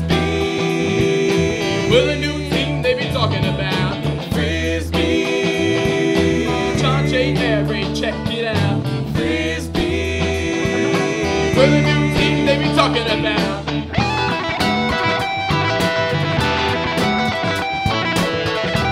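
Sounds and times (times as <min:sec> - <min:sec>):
bass guitar: 0:00.0 - 0:18.9
drum kit: 0:00.0 - 0:18.9
guitar lead line bending: 0:00.0 - 0:18.9.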